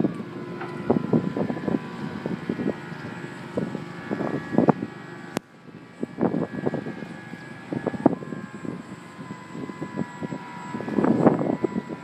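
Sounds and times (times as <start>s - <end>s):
faint electric motor whine: 0.0s - 12.0s
wind buffeting microphone: 0.0s - 12.0s.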